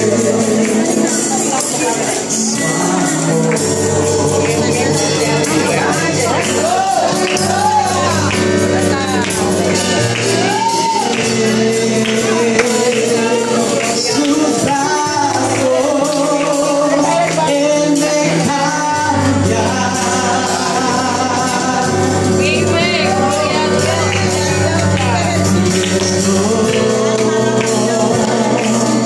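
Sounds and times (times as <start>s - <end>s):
backing music with percussive beat: 0.0s - 29.0s
man singing into microphone: 0.0s - 29.0s.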